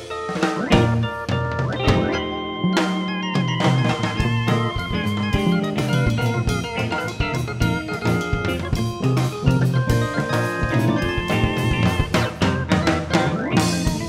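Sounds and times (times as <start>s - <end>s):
guitar and drum music: 0.0s - 14.0s.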